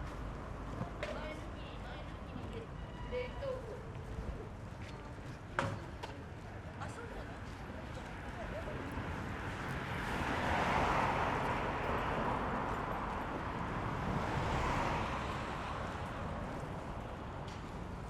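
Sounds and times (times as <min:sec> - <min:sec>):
tyre and road noise from passing cars: 0:00.0 - 0:18.0.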